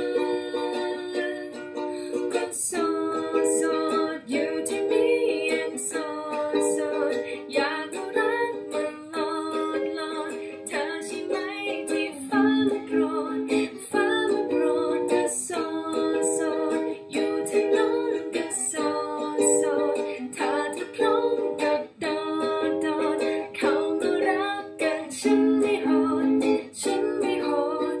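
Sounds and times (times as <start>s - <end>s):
ukulele strumming chords: 0.0s - 28.0s.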